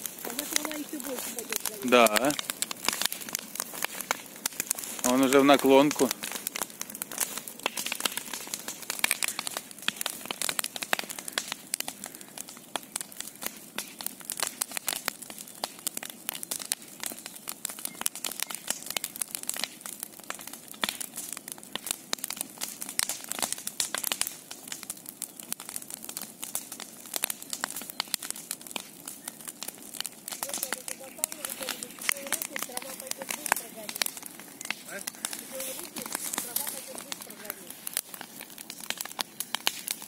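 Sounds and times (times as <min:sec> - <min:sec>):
bonfire crackling and popping: 0:00.0 - 0:40.0.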